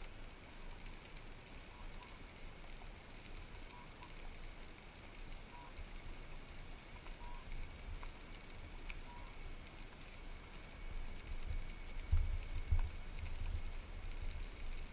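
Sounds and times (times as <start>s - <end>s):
faint clicks and crackles: 0.0s - 14.9s.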